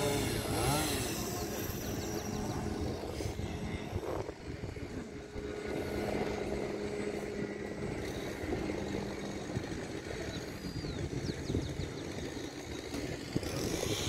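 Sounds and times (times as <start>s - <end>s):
distant motor engine droning: 0.0s - 14.0s.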